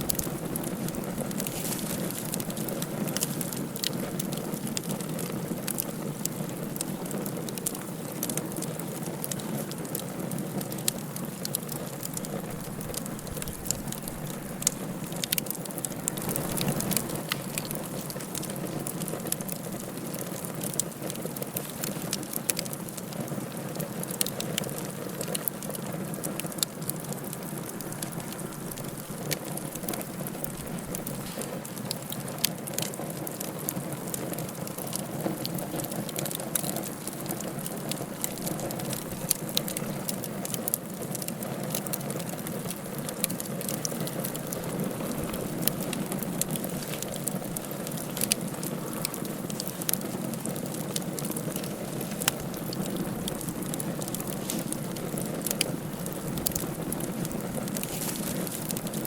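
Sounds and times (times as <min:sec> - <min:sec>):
sharp pops and snaps: 0:00.0 - 0:59.0
wood fire crackling: 0:00.0 - 0:59.0.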